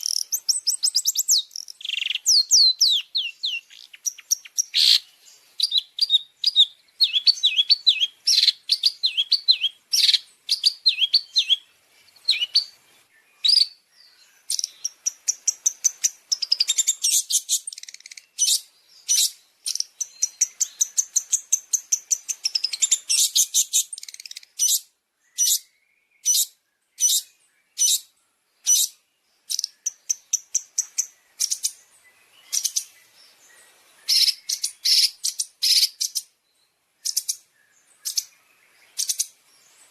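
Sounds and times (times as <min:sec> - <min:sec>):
shrike chirps and trills: 0:00.0 - 0:12.8, 0:13.4 - 0:36.4, 0:37.0 - 0:39.9.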